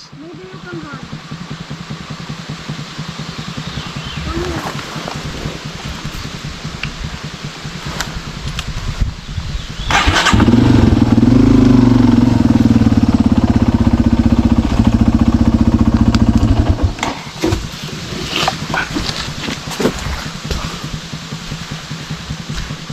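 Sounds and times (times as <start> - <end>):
dirt bike engine revving: 0.0 - 8.5, 9.8 - 22.9.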